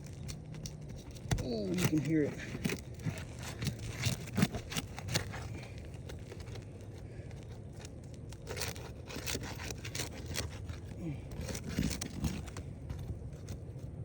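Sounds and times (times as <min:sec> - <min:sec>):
shingles cracking as pried up: 0:00.0 - 0:13.8.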